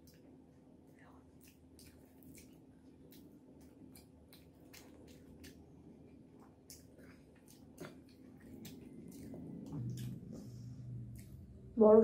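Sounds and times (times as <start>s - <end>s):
fingers squishing wet food: 1.2s - 11.4s.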